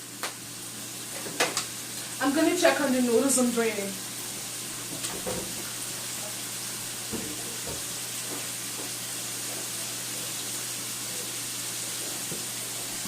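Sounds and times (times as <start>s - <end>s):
food sizzling in oil in a pan: 0.0s - 13.0s.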